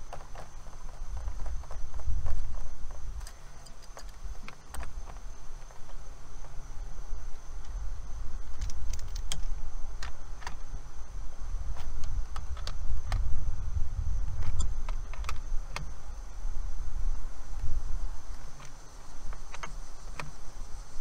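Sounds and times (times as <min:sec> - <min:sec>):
high insect buzz: 0:00.0 - 0:21.0.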